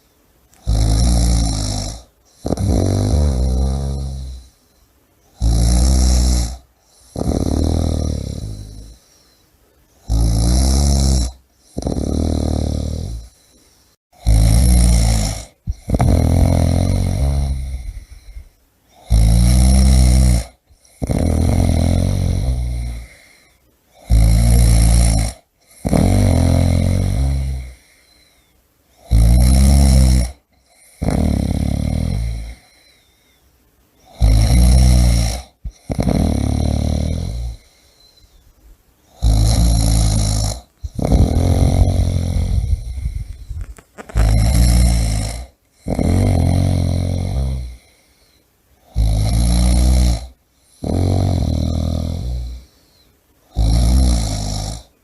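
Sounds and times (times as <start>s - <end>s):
person snoring heavily: 0.6s - 4.6s, 5.3s - 9.4s, 10.0s - 13.6s, 14.2s - 28.4s, 29.0s - 33.1s, 34.0s - 38.4s, 39.1s - 55.0s.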